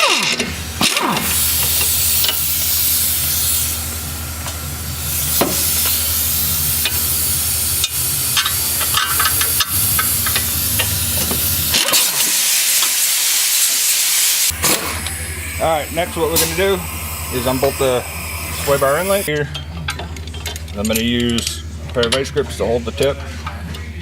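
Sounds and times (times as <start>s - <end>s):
pneumatic air tool hissing: 0.0s - 19.3s
steady low hum: 0.2s - 11.8s, 14.5s - 24.0s.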